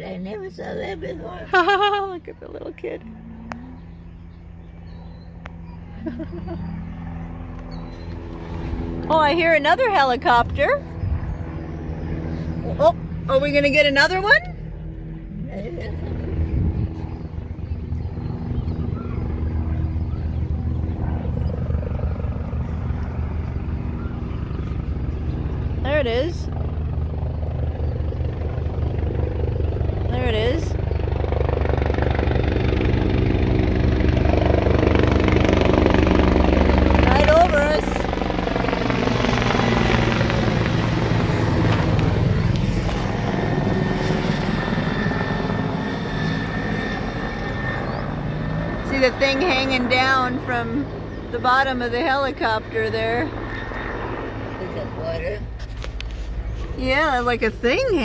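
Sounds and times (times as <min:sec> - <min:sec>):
helicopter engine hum: 0:00.0 - 0:58.0
helicopter rotor chopping: 0:00.0 - 0:58.0.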